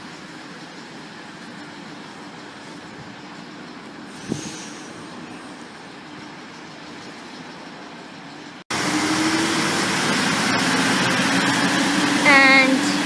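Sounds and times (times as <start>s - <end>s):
electric train humming: 0.0s - 13.0s
train rumble: 0.0s - 13.0s.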